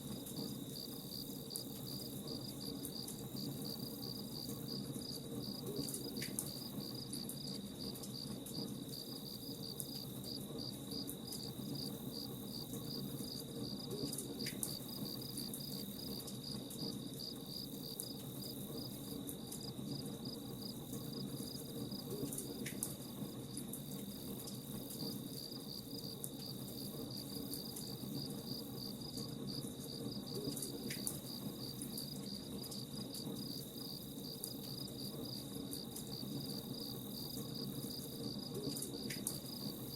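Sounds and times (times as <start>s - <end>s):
crickets chirping: 0.0s - 39.9s
low steady hiss: 0.0s - 39.9s.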